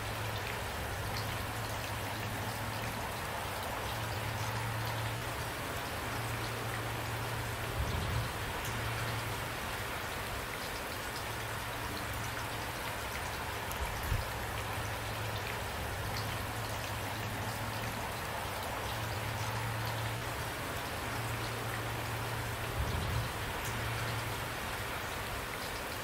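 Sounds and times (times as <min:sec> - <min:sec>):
individual raindrops: 0:00.0 - 0:26.0
steady rain falling: 0:00.0 - 0:26.0.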